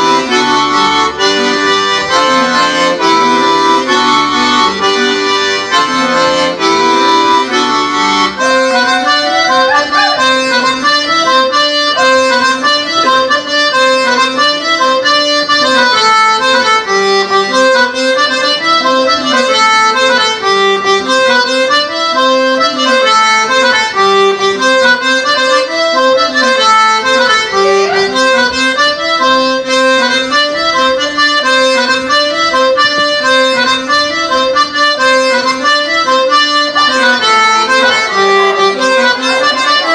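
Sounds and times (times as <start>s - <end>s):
traditional dance music: 0.0s - 39.9s.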